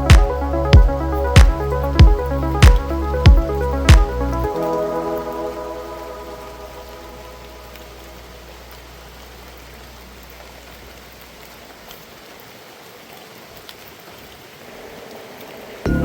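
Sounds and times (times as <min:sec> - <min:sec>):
falling water rushing: 0:00.0 - 0:16.0
water drip ticks: 0:00.0 - 0:16.0.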